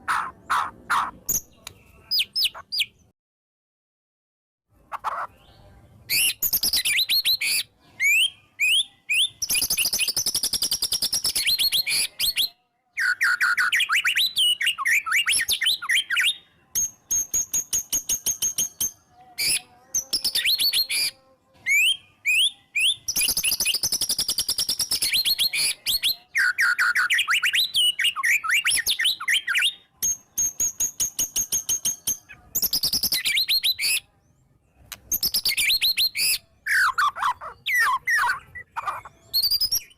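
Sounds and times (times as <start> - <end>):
bird singing whistled trills: 6.1 - 34.1, 35.0 - 39.9.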